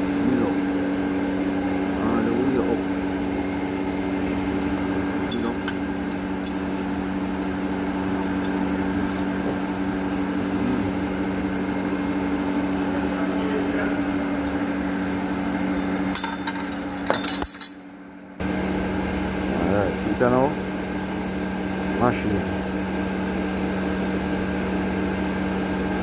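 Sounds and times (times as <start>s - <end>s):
electric machine hum: 0.0s - 26.0s.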